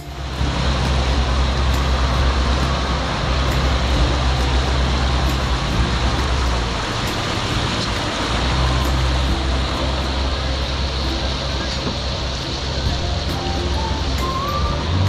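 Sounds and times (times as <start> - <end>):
speedboat engine droning: 0.0 - 15.0
water rushing past hull: 0.0 - 15.0.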